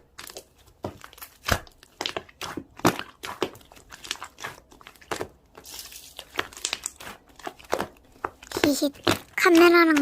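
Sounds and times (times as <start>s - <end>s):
slime squished crackling and popping: 0.0s - 10.0s.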